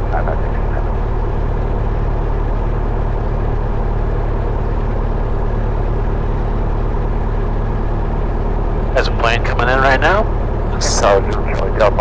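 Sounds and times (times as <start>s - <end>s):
propeller plane engine idling: 0.0s - 12.0s.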